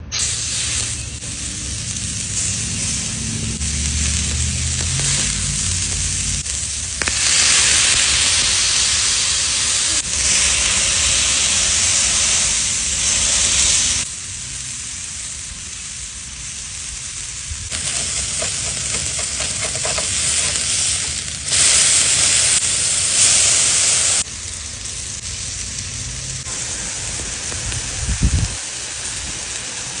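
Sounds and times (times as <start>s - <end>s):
food sizzling on hot platters: 0.0s - 30.0s.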